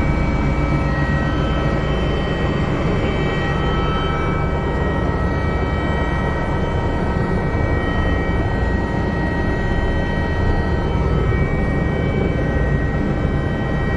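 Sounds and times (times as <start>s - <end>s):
helicopter rumble: 0.0s - 13.9s
high turbine whine: 0.0s - 13.9s.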